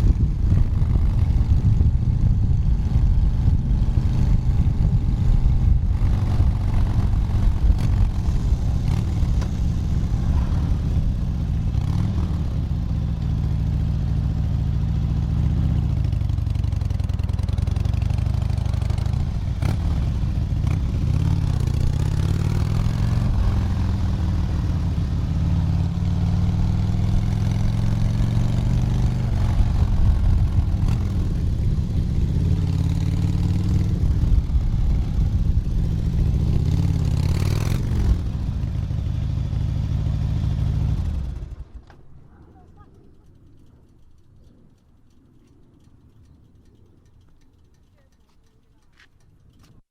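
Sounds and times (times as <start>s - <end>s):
motorcycle engine running: 0.0s - 49.8s.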